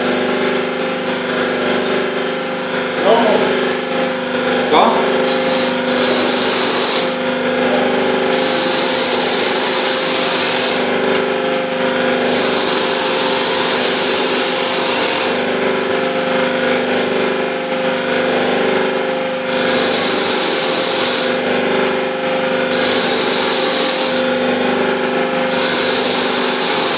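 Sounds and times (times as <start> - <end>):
machine humming: 0.0 - 26.9.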